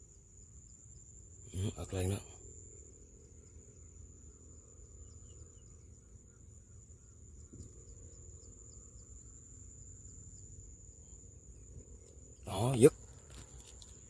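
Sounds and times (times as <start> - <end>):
insect chirping: 0.0 - 14.0
insect drone: 0.0 - 14.0.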